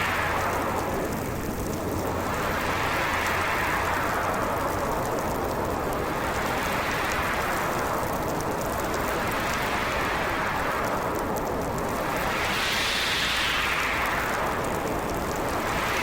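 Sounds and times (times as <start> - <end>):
faint light ticking: 0.0 - 16.0
storm wind blowing: 0.0 - 16.0.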